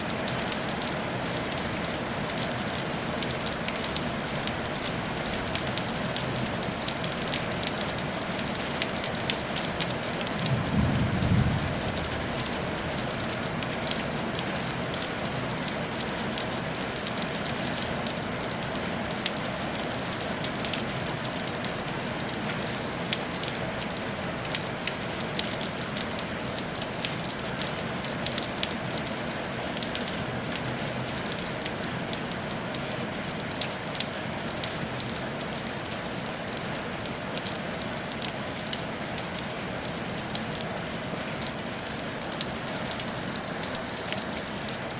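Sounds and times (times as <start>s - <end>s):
rain on a tile roof: 0.0s - 44.9s.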